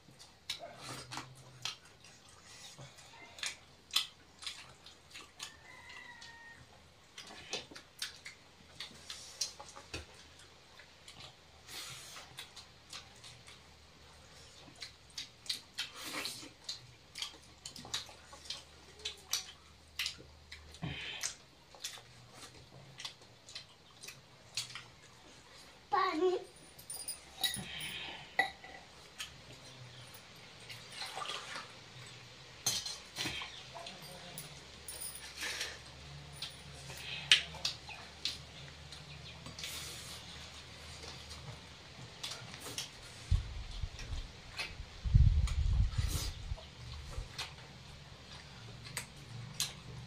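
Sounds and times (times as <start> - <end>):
fingers squishing rice on plates: 0.0 - 25.7, 27.4 - 50.0
chewing: 0.0 - 25.8, 27.2 - 50.0.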